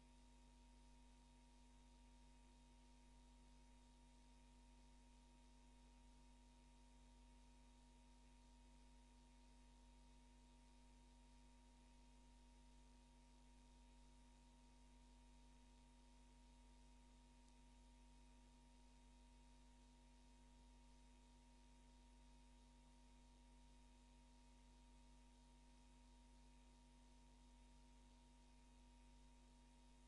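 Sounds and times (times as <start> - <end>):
faint steady hum and hiss: 0.0 - 30.0.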